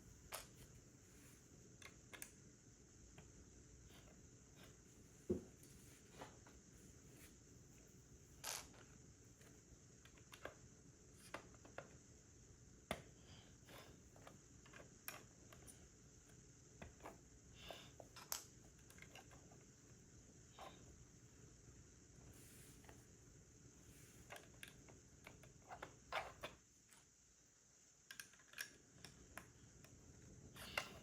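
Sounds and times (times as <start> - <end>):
faint hiss: 0.0 - 31.0.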